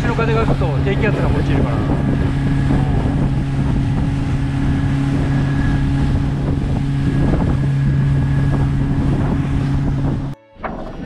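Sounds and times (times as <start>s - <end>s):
boat engine humming: 0.0s - 11.0s
wind buffeting microphone: 0.0s - 11.0s.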